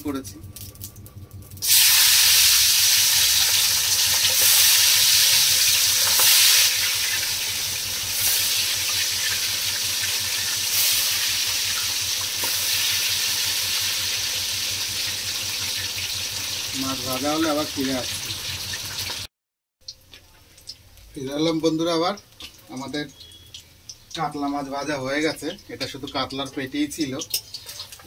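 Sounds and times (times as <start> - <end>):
fish frying in hot oil: 0.5 - 28.0.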